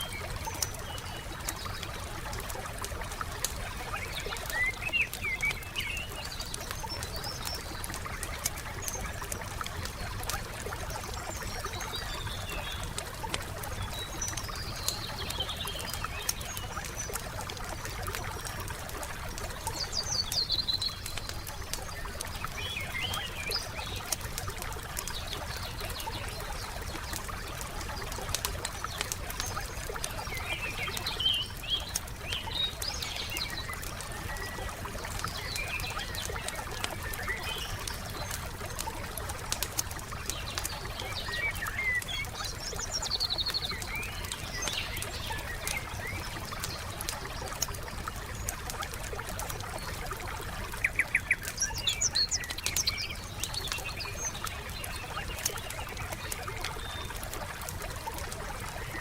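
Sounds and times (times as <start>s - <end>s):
campfire crackling and popping: 0.0s - 59.0s
soft water trickling: 0.0s - 59.0s
songbirds chirping and trilling: 0.0s - 59.0s.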